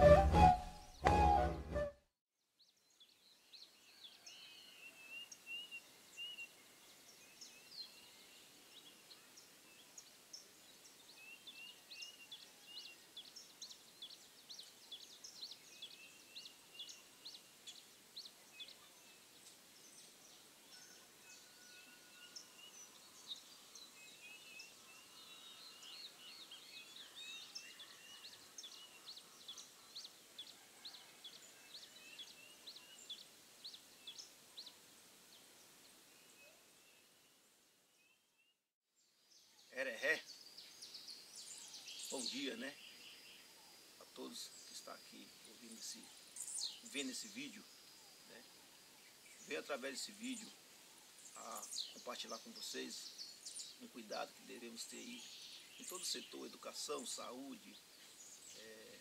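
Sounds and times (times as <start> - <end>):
small birds chirping: 2.6 - 59.0
outdoor hiss: 2.9 - 38.2, 39.2 - 59.0.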